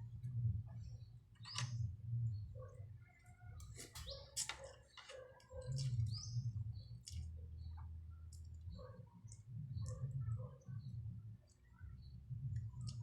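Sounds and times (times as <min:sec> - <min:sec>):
low steady rumble: 0:00.0 - 0:03.8, 0:05.7 - 0:13.0
small birds chirping: 0:00.2 - 0:13.0.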